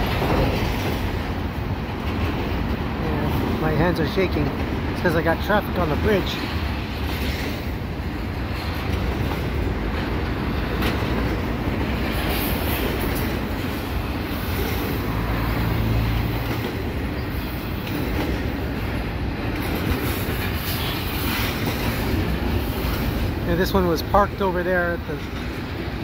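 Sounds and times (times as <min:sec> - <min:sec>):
freight train wheels rumbling on rail: 0:00.0 - 0:26.0
sharp clicks of train wheels: 0:00.0 - 0:26.0.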